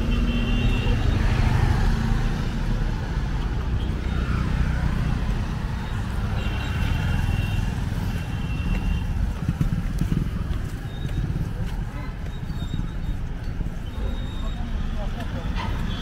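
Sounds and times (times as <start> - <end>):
motor vehicles passing: 0.0 - 16.0.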